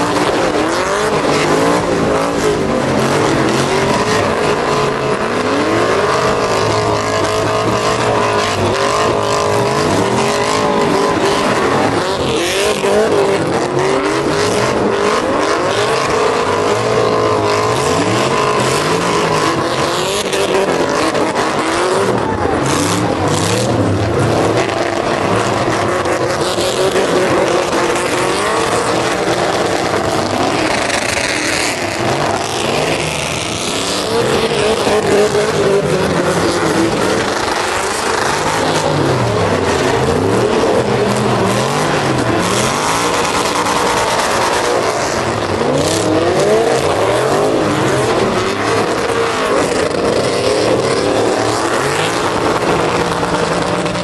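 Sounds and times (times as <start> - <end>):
tires squealing: 0.0 - 54.0
truck engines revving: 0.0 - 54.0.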